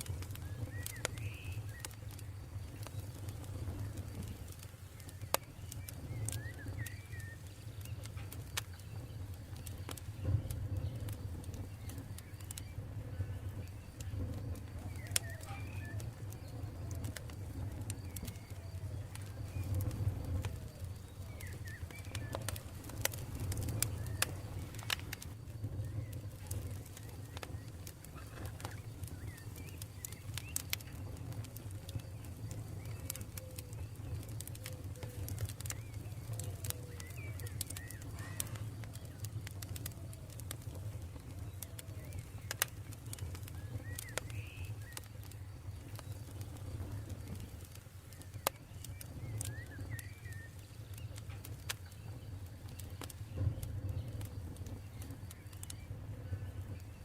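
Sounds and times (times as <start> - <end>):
birds chirping faintly: 0.0 - 57.0
campfire crackling and popping: 0.0 - 57.0.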